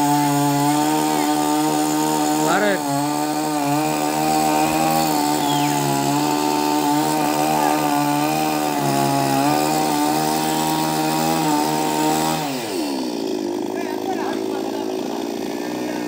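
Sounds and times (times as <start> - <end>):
chainsaw cutting: 0.0 - 16.0.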